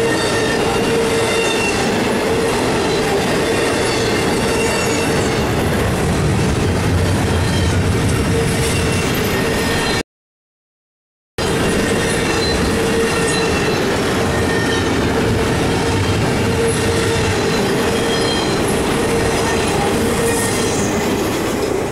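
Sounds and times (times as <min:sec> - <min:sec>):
freight cars rumbling on rails: 0:00.0 - 0:10.0, 0:11.4 - 0:21.9.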